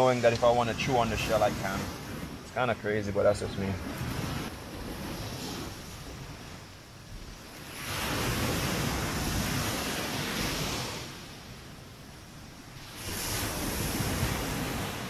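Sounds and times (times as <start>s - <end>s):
ocean waves breaking on shore: 0.0s - 15.0s.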